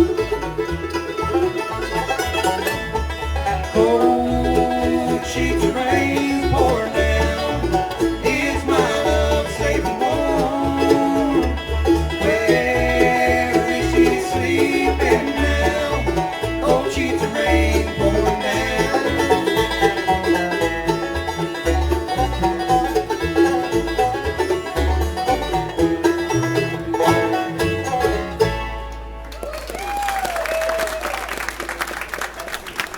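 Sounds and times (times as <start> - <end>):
bluegrass band playing: 0.0 - 30.4.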